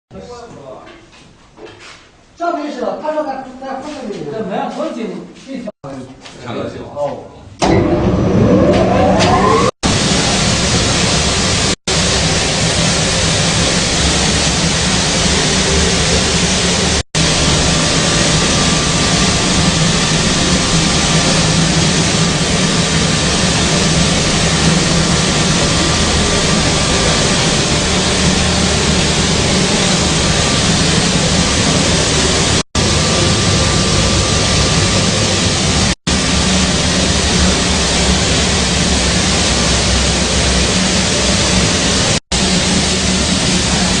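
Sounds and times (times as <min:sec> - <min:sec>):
flour milling machine running: 0:07.6 - 0:44.0.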